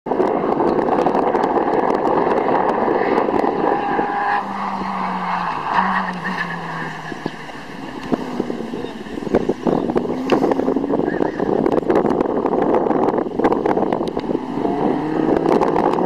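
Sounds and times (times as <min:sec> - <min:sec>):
race car engine running hard: 0:00.1 - 0:16.0.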